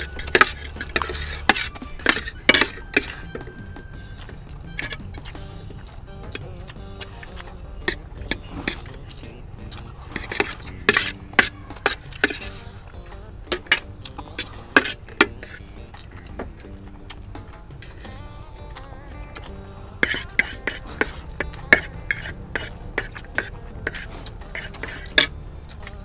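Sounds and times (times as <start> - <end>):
utensils clinking against bowls: 0.0 - 18.1, 19.3 - 25.4
background music: 0.0 - 26.0.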